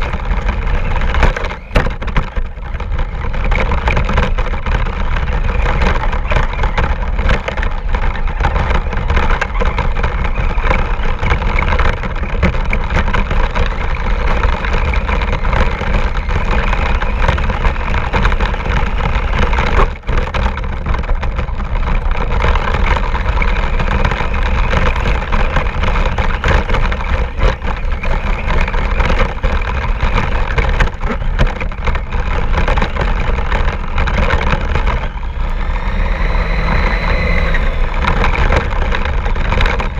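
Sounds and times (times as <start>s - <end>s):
chassis rattling and knocking: 0.0s - 39.9s
toy car motor running: 0.0s - 39.9s.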